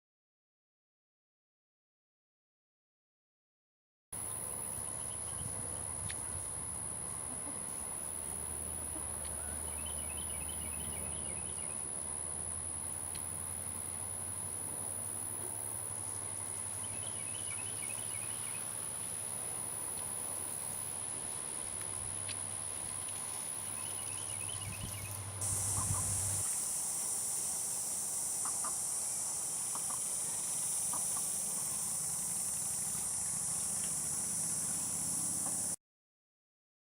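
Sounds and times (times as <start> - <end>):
insect chorus: 4.2 - 35.8.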